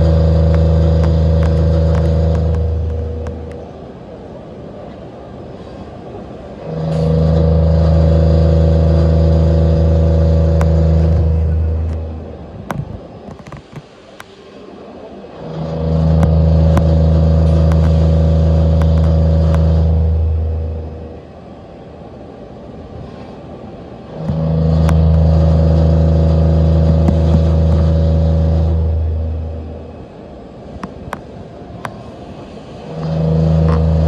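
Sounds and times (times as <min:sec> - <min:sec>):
lathe machine hum: 0:00.0 - 0:34.0.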